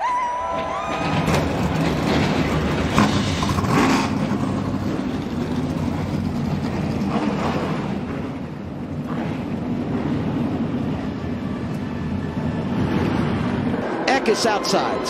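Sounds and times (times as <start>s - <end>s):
race truck engines running: 0.8s - 15.0s.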